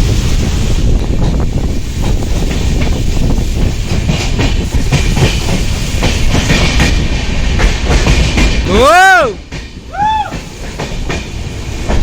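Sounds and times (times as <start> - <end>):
train wheels clattering over rails: 0.0 - 12.0.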